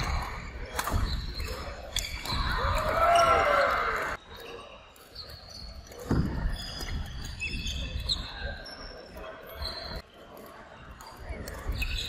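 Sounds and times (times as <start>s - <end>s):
court shoes squeaking: 0.0s - 3.5s, 4.1s - 12.0s.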